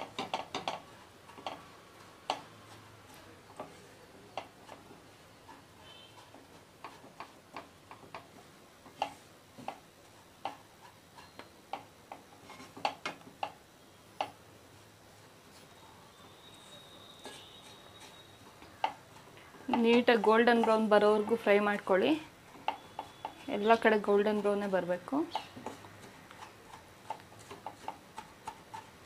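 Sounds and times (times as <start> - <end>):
spatula scraping a pan: 0.0 - 13.1, 16.4 - 21.8, 22.5 - 29.0.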